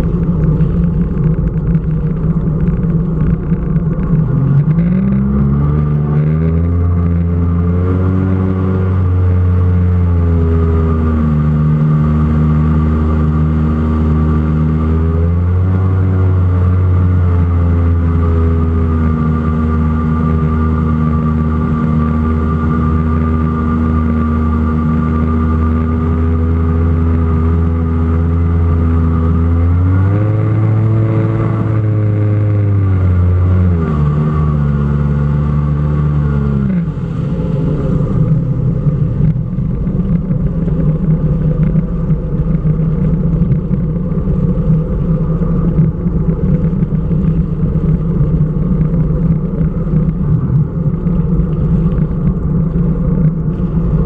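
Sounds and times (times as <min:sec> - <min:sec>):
jet ski engine running: 0:00.0 - 0:54.0.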